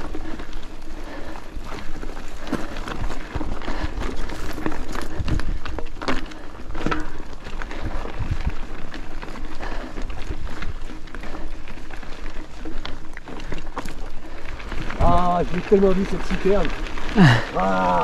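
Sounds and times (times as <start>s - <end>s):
bike tyres crackling on stones: 0.0s - 18.0s.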